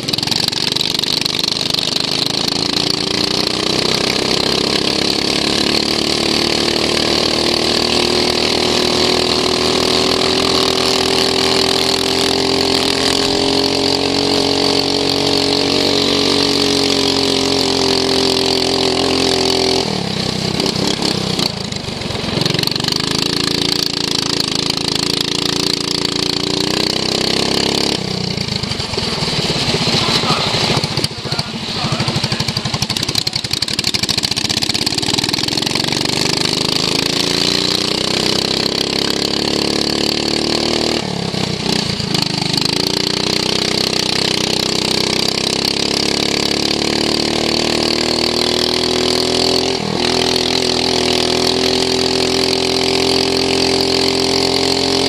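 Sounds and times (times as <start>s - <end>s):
lawn mower engine revving: 0.0s - 55.0s.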